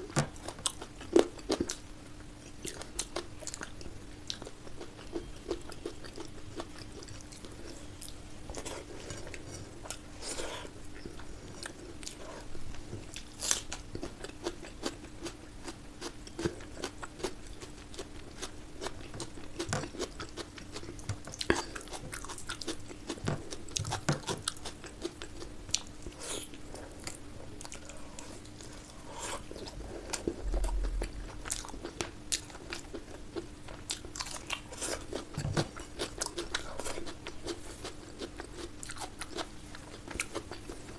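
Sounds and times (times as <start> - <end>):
close chewing and mouth clicks: 0.0 - 40.9
steady low hum: 0.0 - 40.9.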